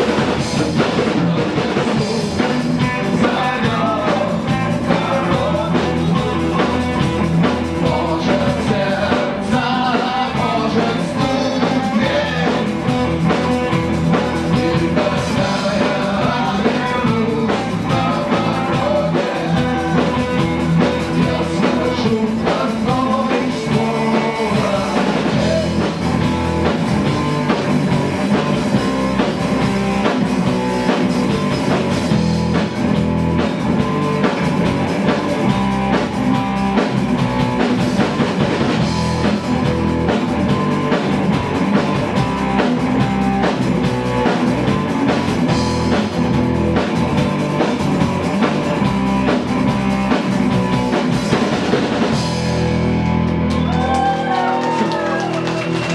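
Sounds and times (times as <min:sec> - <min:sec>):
rock band playing live: 0:00.0 - 0:55.9.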